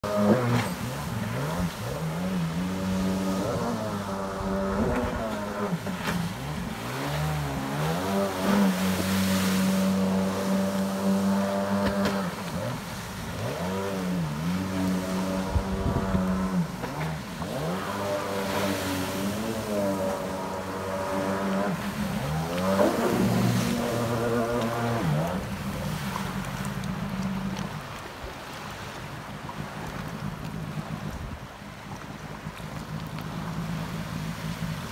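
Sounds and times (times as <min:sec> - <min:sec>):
watercraft engine revving: 0:00.0 - 0:34.9.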